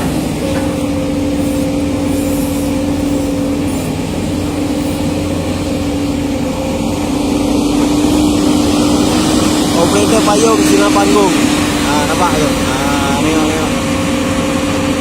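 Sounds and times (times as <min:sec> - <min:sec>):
excavator diesel drone: 0:00.0 - 0:15.0
steady whine: 0:00.0 - 0:15.0.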